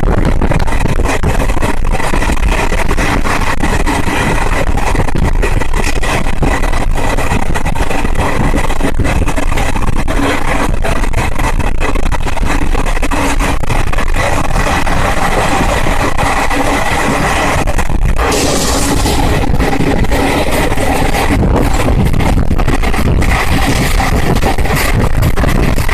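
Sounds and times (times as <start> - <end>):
train rumbling at speed: 0.0 - 25.9.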